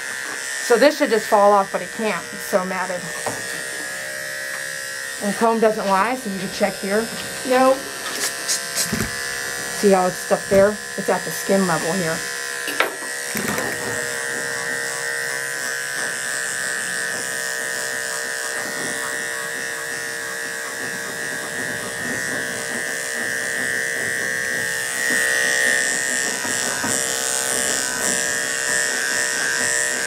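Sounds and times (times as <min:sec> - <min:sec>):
electric clippers buzzing: 0:00.0 - 0:30.0.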